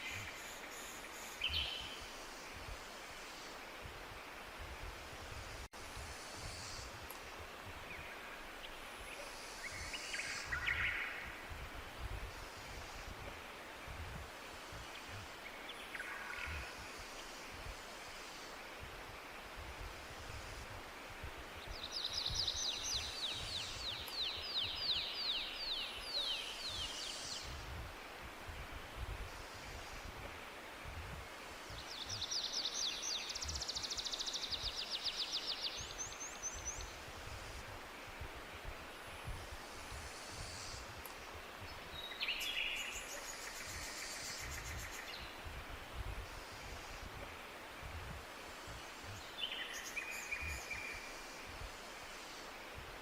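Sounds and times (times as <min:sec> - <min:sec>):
forest ambience: 0:00.0 - 0:53.0
steady hiss: 0:00.0 - 0:53.0.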